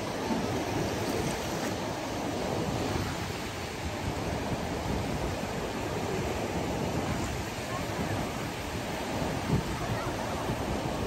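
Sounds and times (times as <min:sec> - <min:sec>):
surf breaking on sandy beach: 0:00.0 - 0:11.0
wind rumbling on microphone: 0:00.0 - 0:11.0.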